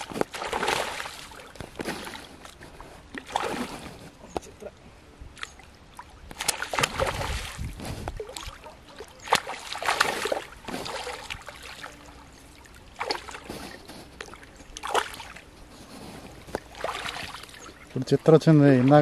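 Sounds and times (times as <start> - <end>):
fish thrashing and splashing: 0.0 - 4.1, 5.4 - 15.5, 16.3 - 18.0
water sloshing: 0.0 - 19.0.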